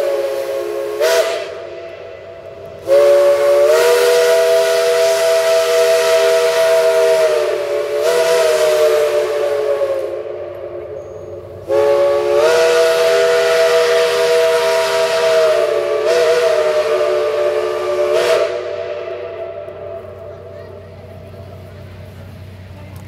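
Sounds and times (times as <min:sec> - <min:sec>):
steam locomotive chime whistle: 0:00.0 - 0:20.2.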